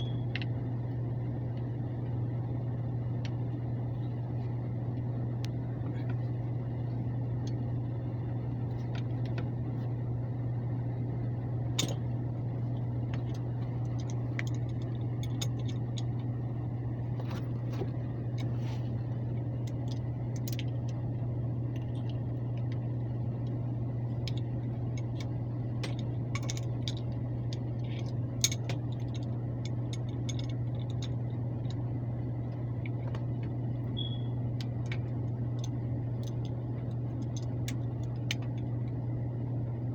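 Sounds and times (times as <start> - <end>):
air handler blower humming: 0.0 - 39.9.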